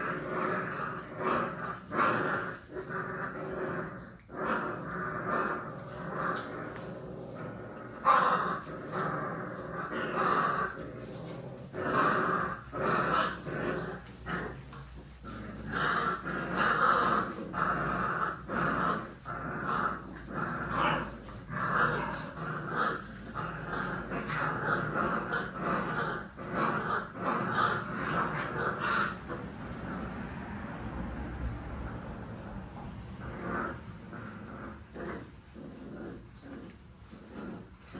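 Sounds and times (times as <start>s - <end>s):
puppies growling: 0.0s - 37.9s.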